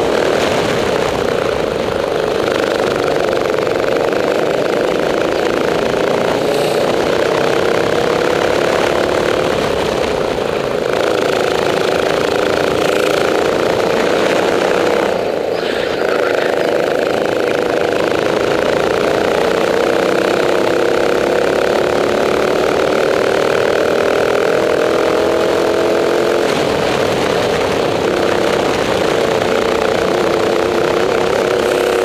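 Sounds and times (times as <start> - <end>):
go-kart engine running: 0.0 - 32.0.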